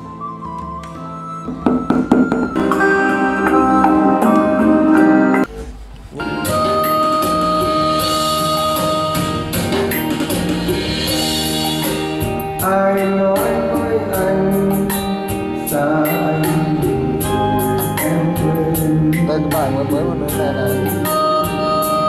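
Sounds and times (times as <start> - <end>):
song with singing over loudspeakers: 0.0 - 5.5, 6.2 - 22.0.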